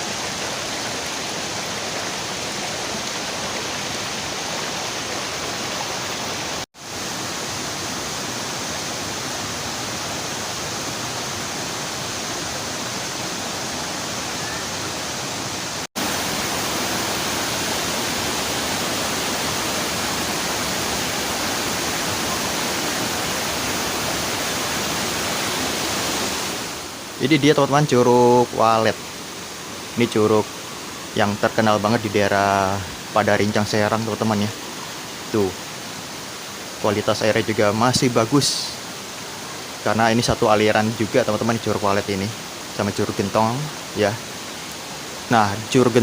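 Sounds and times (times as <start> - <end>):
waterfall and river rushing: 0.0 - 46.0.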